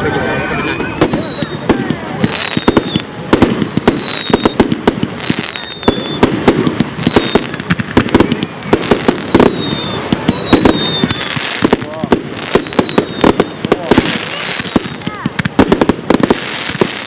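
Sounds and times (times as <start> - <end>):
fireworks bangs and crackles: 0.0 - 17.0
fireworks whistles: 0.1 - 17.0.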